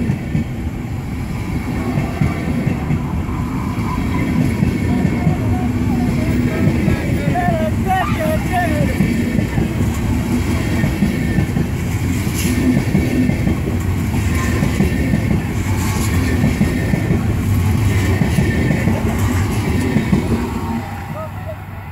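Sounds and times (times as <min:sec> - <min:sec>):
train wheels rumbling on rails: 0:00.0 - 0:21.9
wheels clickety-clack: 0:01.5 - 0:21.3.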